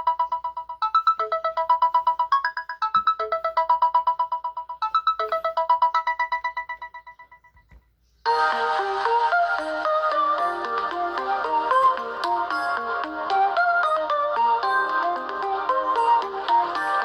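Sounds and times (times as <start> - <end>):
bell-like ringtone pulsing: 0.0 - 7.6, 8.3 - 17.0
electronic ringtone: 0.0 - 17.0.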